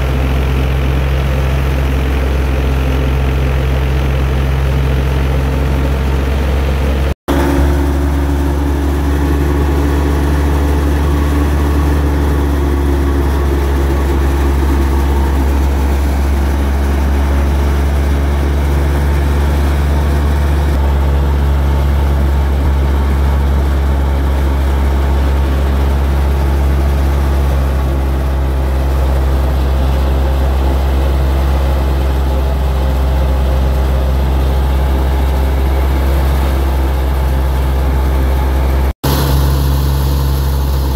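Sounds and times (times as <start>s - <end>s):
threshing machine droning: 0.0s - 40.9s.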